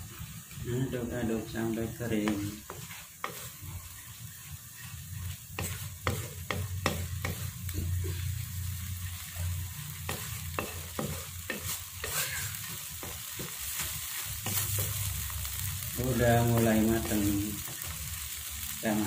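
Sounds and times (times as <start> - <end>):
spatula scraping a wok: 0.0 - 18.7
food sizzling: 0.0 - 19.0.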